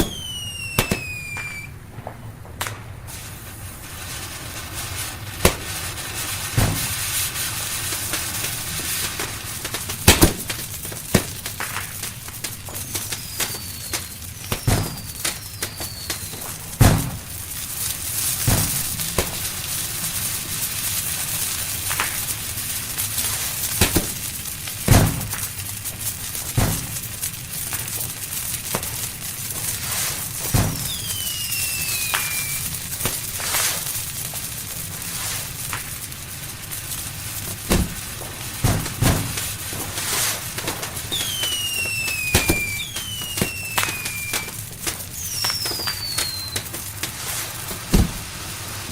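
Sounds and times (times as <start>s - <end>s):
firework falling whistle: 0.0s - 1.8s, 2.6s - 25.7s, 26.5s - 27.0s, 27.7s - 48.9s
fireworks bangs: 0.0s - 48.9s
fireworks crackling: 0.0s - 48.9s.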